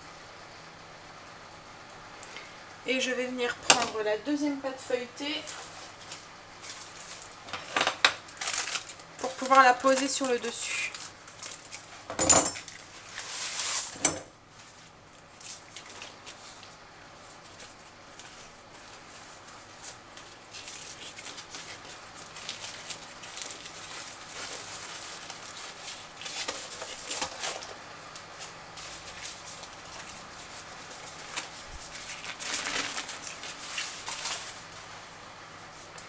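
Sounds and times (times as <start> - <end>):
paper packaging rustling: 5.4 - 35.9.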